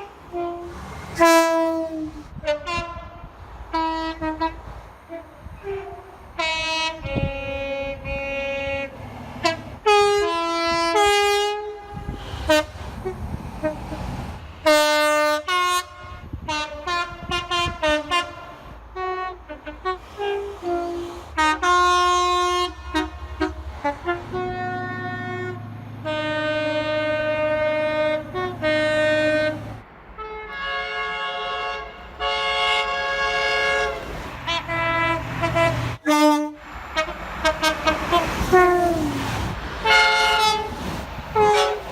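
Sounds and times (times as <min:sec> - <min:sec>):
locomotive air horns: 0:00.0 - 0:41.9
low train rumble: 0:00.0 - 0:41.9.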